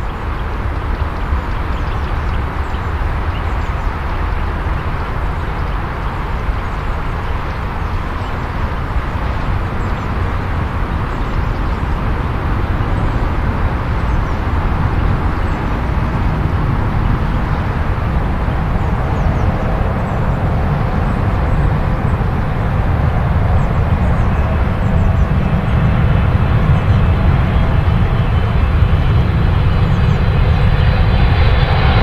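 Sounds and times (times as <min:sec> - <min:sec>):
jet airliner landing rumble: 0:00.0 - 0:32.0.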